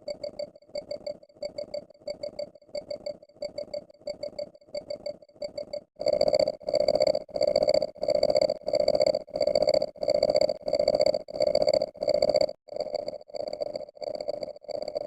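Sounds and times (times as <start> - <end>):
electronic beeping: 0.0 - 12.3.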